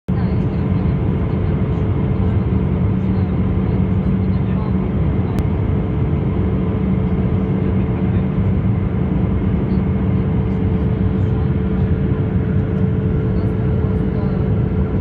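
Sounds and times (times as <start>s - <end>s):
airplane cabin airflow and engines: 0.1s - 15.0s
steady hum: 2.3s - 15.0s.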